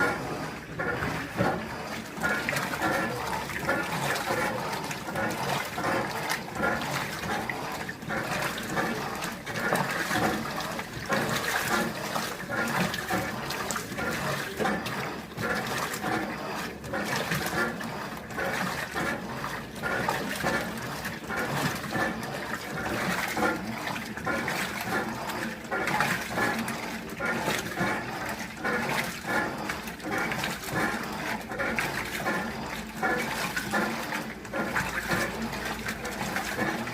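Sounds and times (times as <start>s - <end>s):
water sloshing in washing machine: 0.0s - 36.9s.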